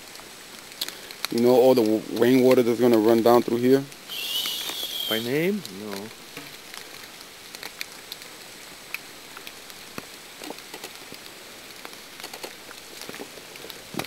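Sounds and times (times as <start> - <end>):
raindrop ticks: 0.0 - 14.0
steady rain: 0.0 - 14.0.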